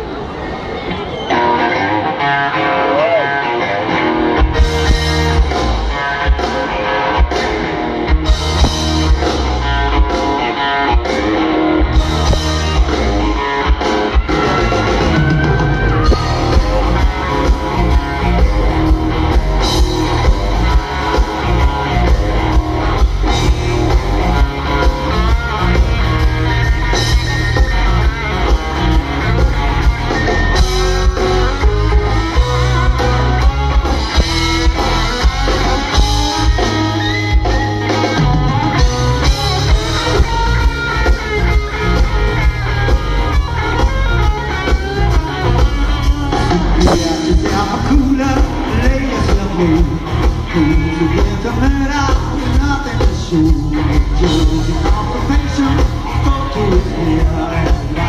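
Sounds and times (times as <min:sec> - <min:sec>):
electric guitar: 0:00.0 - 0:58.0
bass guitar: 0:01.3 - 0:58.0
drum kit: 0:04.2 - 0:58.0.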